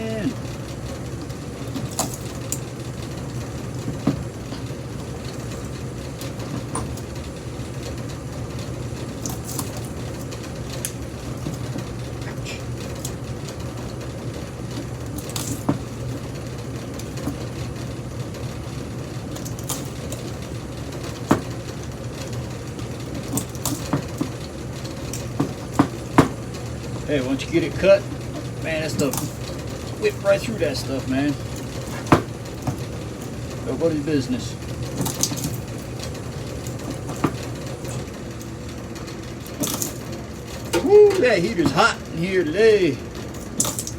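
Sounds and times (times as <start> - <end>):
low mechanical hum: 0.0 - 43.9.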